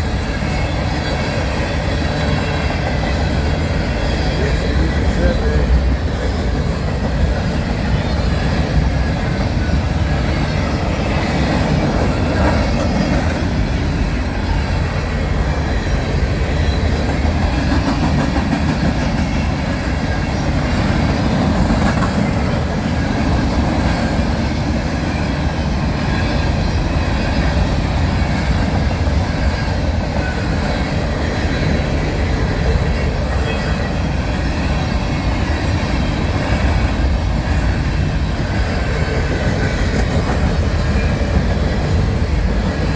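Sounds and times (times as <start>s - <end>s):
freight train wheels on track: 0.0s - 42.9s.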